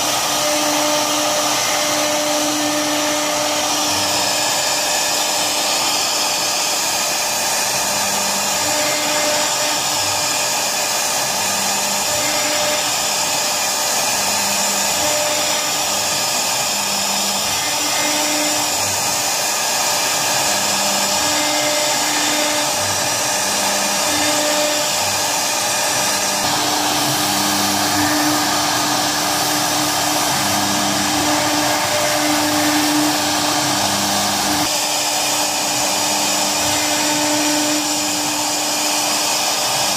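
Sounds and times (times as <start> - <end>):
router spindle whine and hiss: 0.0 - 39.9.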